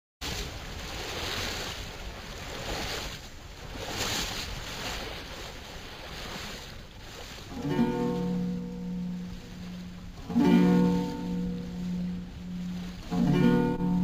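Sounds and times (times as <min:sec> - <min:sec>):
waves washing onto beach: 0:00.2 - 0:14.0.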